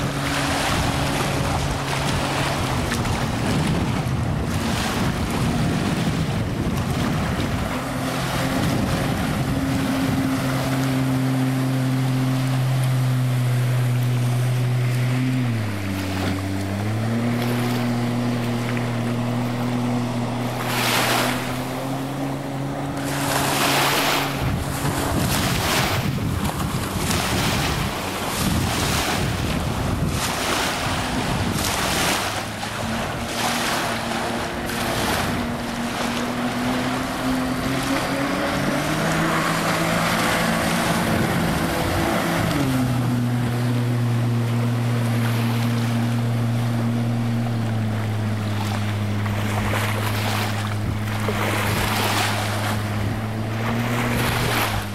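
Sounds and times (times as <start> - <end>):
jet boat engine drone: 0.0 - 54.9
water rushing: 0.0 - 54.9
wind noise on microphone: 0.0 - 54.9.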